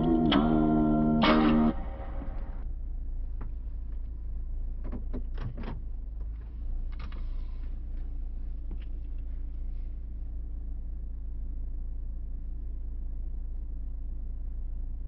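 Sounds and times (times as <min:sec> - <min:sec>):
vehicle cabin rumble: 0:00.0 - 0:15.0.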